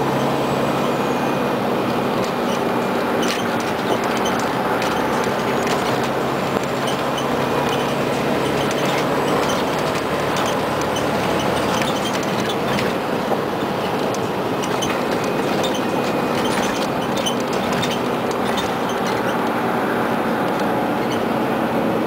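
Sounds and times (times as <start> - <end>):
bus engine drone: 0.0 - 22.0
road noise: 0.0 - 22.0
interior ticks and rattles: 1.8 - 19.6.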